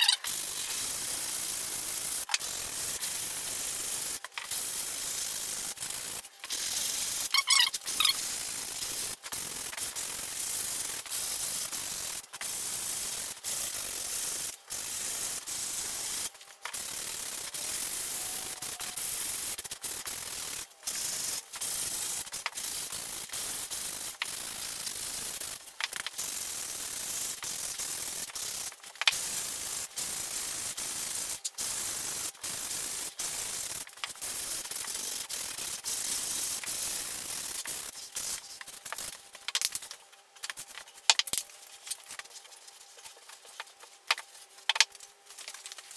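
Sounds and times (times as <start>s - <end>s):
sandpaper scraping on foam: 0.0s - 39.7s.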